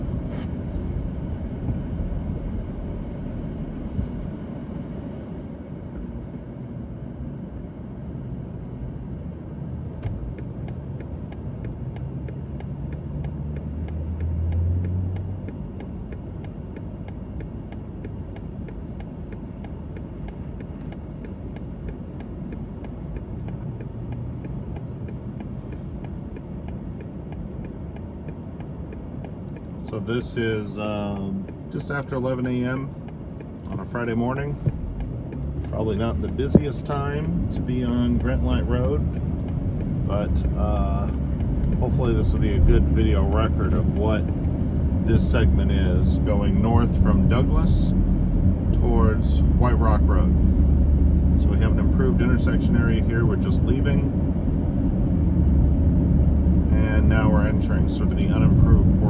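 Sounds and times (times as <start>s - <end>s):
low hum: 0.0s - 13.1s, 14.0s - 59.0s
car interior road rumble: 0.0s - 59.0s.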